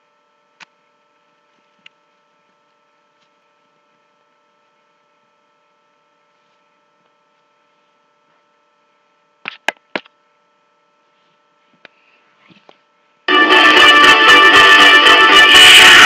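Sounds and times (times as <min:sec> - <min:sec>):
faint electrical hum: 0:00.0 - 0:15.8.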